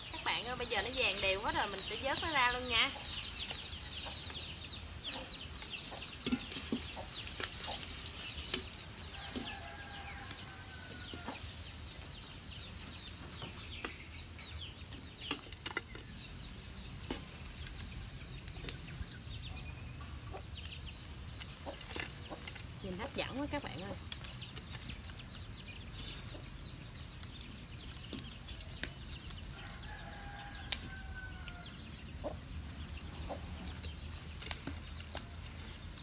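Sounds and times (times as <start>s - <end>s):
chicks peeping: 0.0s - 36.0s
frying oil sizzling: 0.0s - 36.0s.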